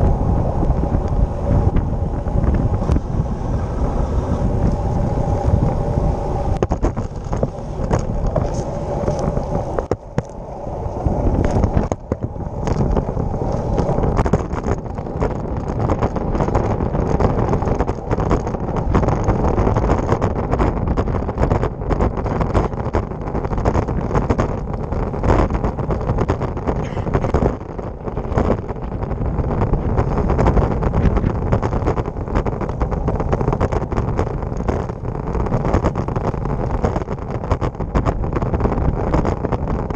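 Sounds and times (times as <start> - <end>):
bike rattling and knocking: 0.0 - 10.4, 11.0 - 39.9
tyre and road noise: 0.0 - 39.9
wind on microphone: 0.0 - 39.9.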